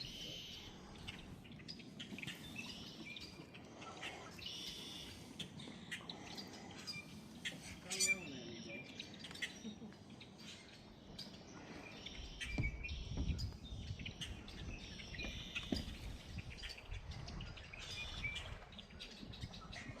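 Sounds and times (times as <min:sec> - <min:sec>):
blackbirds calling: 0:00.0 - 0:20.0.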